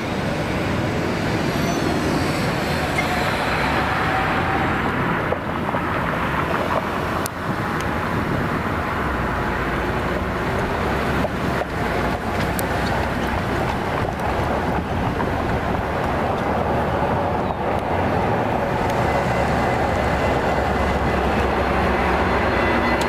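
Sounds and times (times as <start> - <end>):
train rumble: 0.0 - 23.0
wind on microphone: 0.0 - 23.0.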